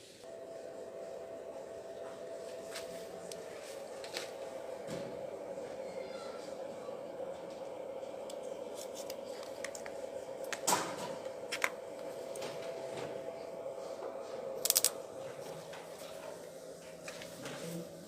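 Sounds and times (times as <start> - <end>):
water pump motor humming: 0.2 - 18.0.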